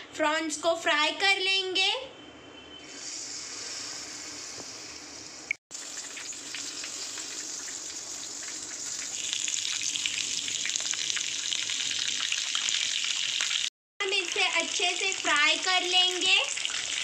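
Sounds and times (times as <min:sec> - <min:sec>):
deep-frying sizzle and crackles: 0:02.8 - 0:17.0.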